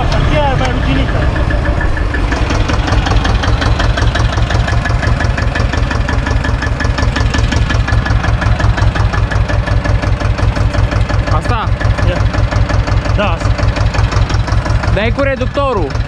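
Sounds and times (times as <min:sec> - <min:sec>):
tractor diesel engine thudding: 0:00.0 - 0:16.0.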